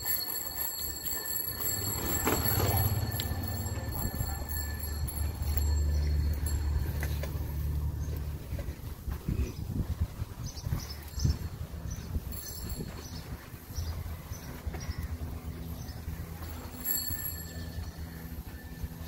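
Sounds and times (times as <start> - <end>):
wind and road rumble: 1.0 - 19.0.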